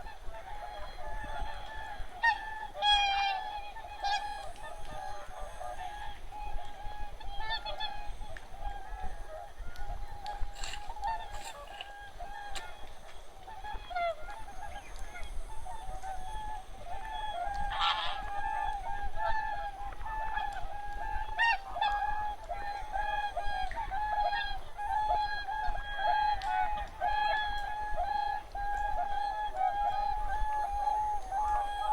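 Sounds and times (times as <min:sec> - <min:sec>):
geese honking: 0:00.0 - 0:31.9.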